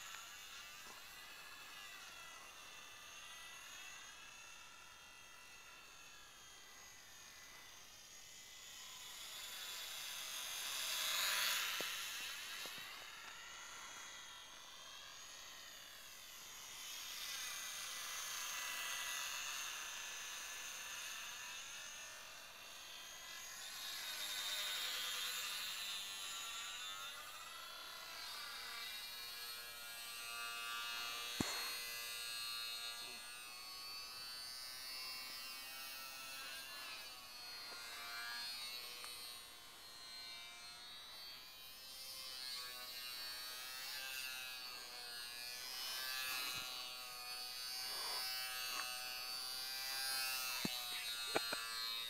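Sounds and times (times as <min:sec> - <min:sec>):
small propeller motor buzzing: 0:00.0 - 0:52.0.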